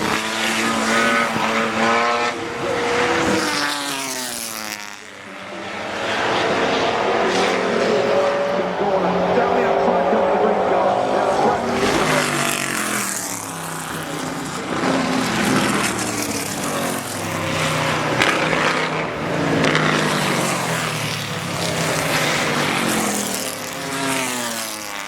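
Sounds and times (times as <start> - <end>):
racing cars passing at speed: 0.0 - 25.0.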